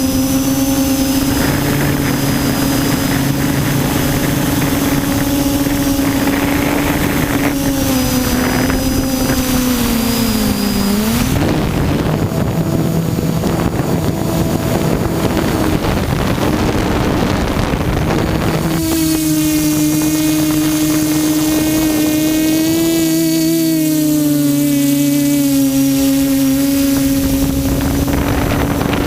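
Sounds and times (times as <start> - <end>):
quadcopter motors whirring: 0.0 - 29.0
rushing noise: 0.0 - 29.0.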